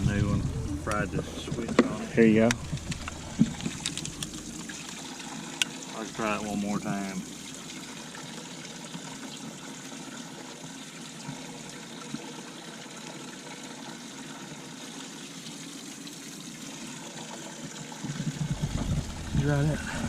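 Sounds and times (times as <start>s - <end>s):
water trickling from pump: 0.0s - 20.0s.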